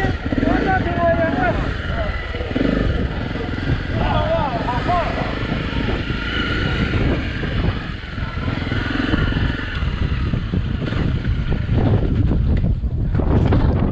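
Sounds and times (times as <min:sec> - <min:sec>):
dirt bike engine revving: 0:00.0 - 0:12.5.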